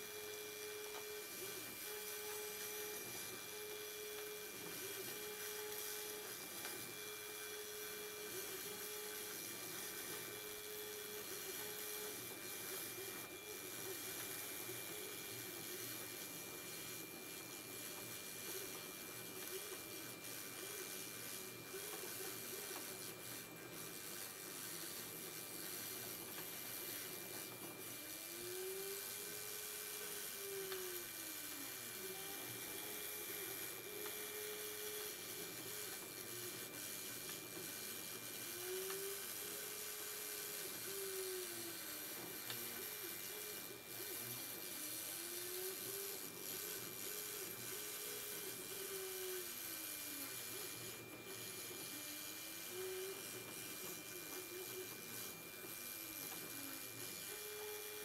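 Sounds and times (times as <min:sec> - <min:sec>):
motors humming: 0:00.0 - 0:58.0.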